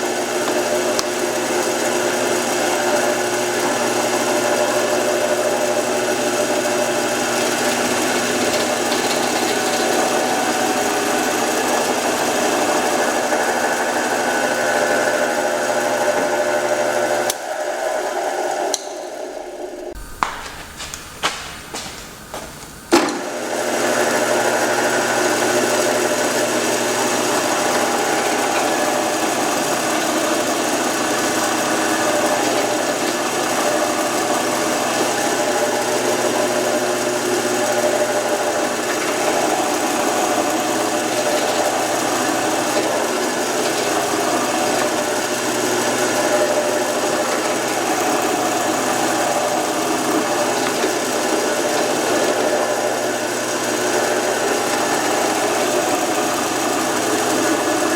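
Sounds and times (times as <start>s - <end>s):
woodworking power tool running: 0.0s - 57.9s.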